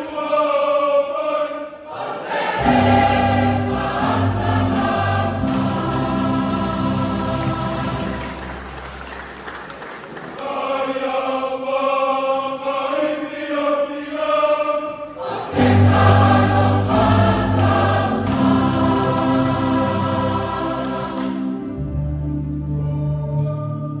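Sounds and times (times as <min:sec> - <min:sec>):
choir singing a hymn: 0:00.0 - 0:09.4, 0:10.3 - 0:24.0.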